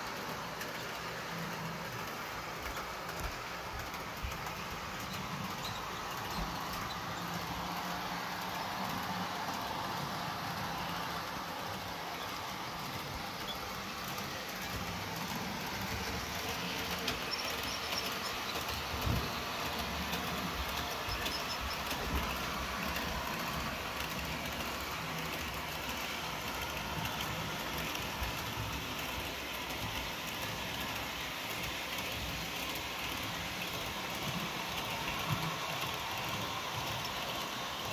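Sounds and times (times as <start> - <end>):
model train rolling rumble: 0.0 - 37.9.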